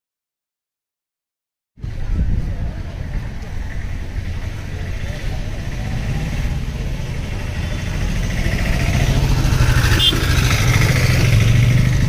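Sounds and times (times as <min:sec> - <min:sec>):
auto-rickshaw engine running: 0:01.9 - 0:12.0.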